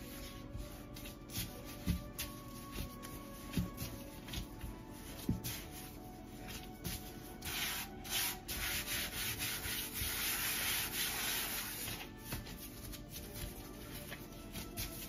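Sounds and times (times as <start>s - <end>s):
gloved hand rubbing pastry mat: 0.0s - 15.0s.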